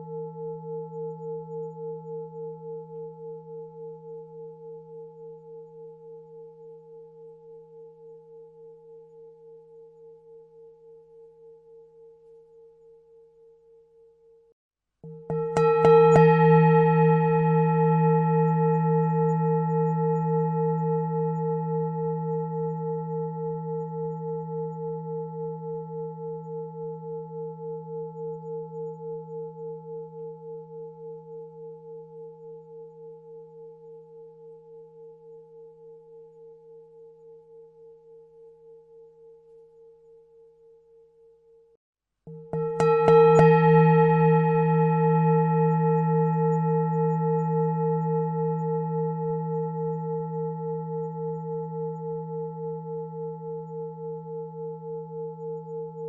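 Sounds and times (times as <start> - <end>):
singing bowl ringing: 0.0 - 56.0.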